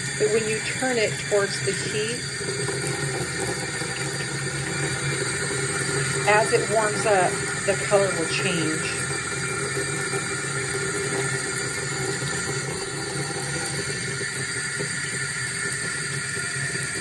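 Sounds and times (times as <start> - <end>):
faucet water pouring into sink: 0.0 - 17.0.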